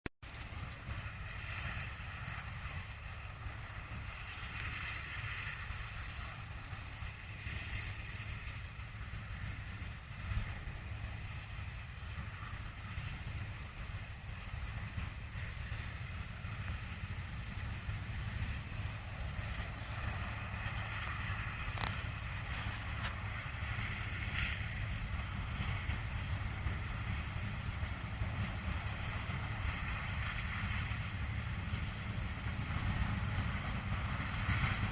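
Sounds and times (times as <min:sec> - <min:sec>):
harvester engine rumble: 0:00.2 - 0:34.9.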